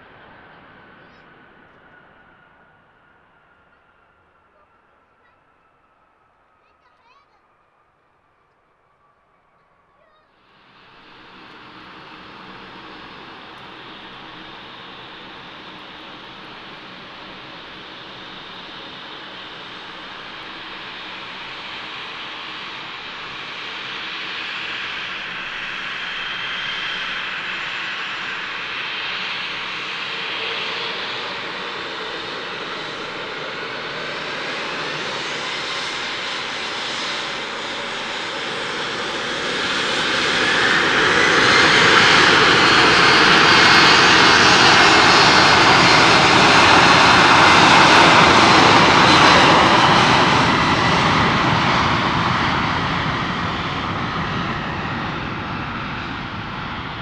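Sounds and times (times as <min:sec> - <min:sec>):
jet engines whining: 0:10.3 - 0:57.0.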